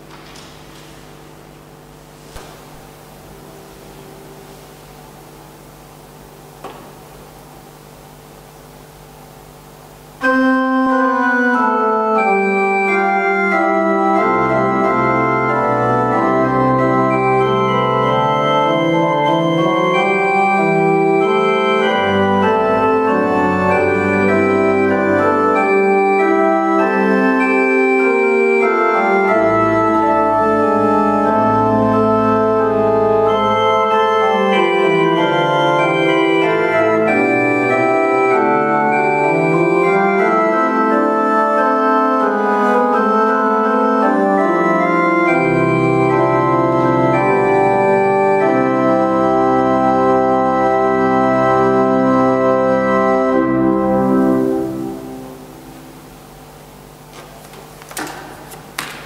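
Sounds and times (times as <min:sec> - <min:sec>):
church organ playing: 0:00.0 - 0:58.9
faint room hum: 0:00.0 - 0:59.0
deep organ pedal bass notes: 0:01.2 - 0:57.1.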